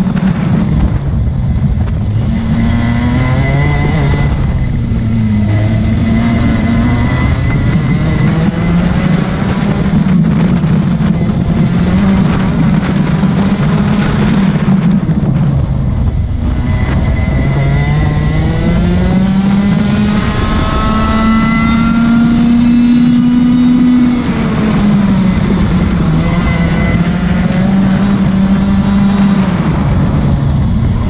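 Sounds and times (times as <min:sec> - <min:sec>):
kart engine revving under load: 0:00.0 - 0:31.0.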